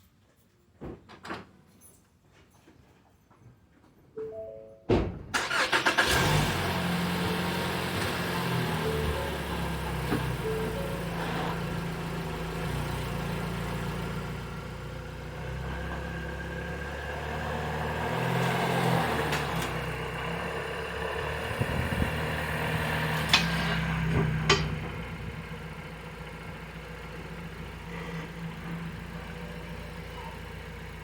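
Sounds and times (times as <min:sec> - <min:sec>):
car engine running: 0:05.4 - 0:31.0.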